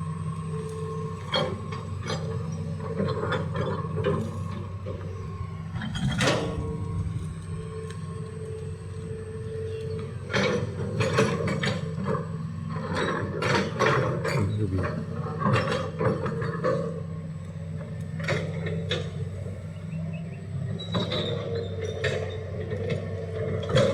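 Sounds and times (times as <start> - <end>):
excavator diesel engine running: 0.0 - 23.9
hydraulic whine: 0.0 - 23.9.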